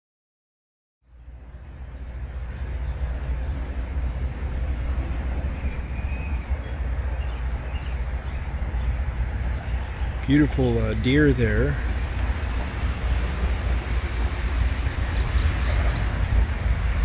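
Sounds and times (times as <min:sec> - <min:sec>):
low rumble: 0:01.3 - 0:17.0.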